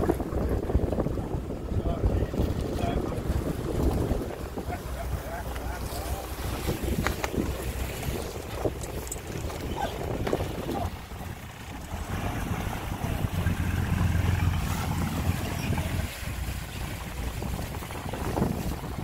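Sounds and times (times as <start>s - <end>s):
boat engine running: 0.0s - 19.0s
wind buffeting microphone: 0.0s - 19.0s.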